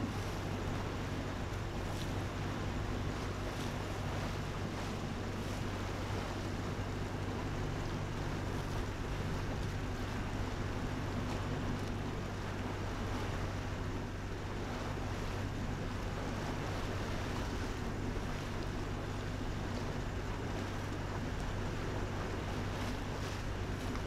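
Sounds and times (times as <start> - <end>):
boat engine low hum: 0.0 - 24.0
water rushing along hull: 0.0 - 24.0
wind on microphone: 0.0 - 24.0.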